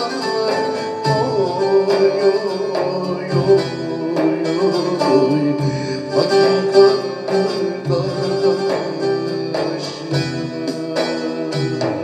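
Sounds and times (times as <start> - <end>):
plucked string folk melody: 0.0 - 12.0.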